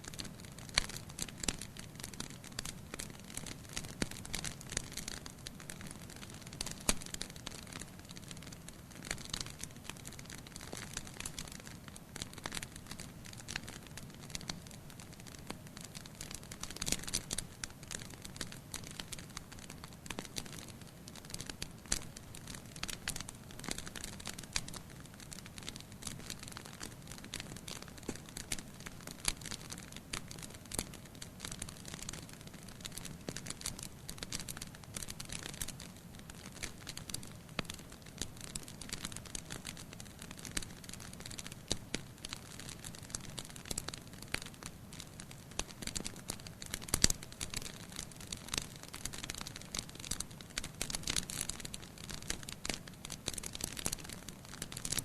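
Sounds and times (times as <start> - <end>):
soft low hiss: 0.0 - 55.0
firewood crackling: 0.1 - 55.0.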